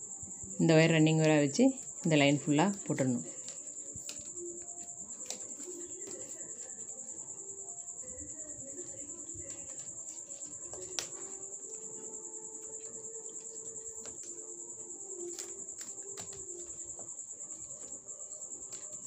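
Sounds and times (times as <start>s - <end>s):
cricket trilling: 0.0s - 19.0s.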